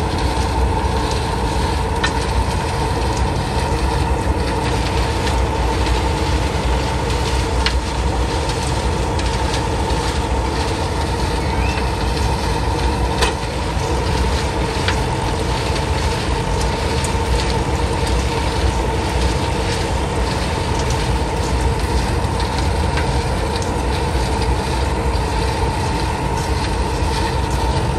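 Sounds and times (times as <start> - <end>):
drum mixer machinery rumbling: 0.0 - 27.9
steady hum: 0.0 - 27.9.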